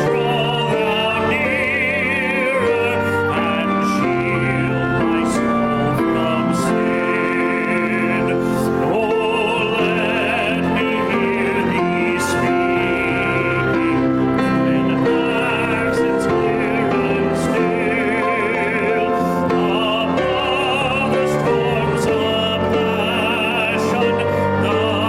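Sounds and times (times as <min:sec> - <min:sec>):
instrumental accompaniment: 0:00.0 - 0:25.0
person singing with vibrato: 0:00.0 - 0:25.0.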